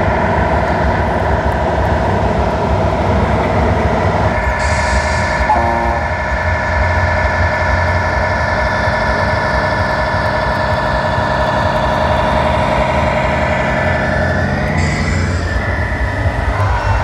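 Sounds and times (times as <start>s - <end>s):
simulated diesel truck engine: 0.0s - 17.0s.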